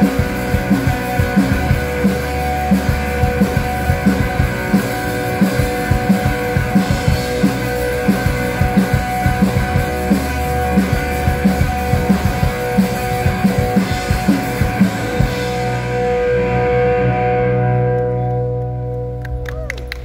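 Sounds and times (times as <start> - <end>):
drum kit beat: 0.0 - 16.8
electric guitars chords: 0.0 - 20.0.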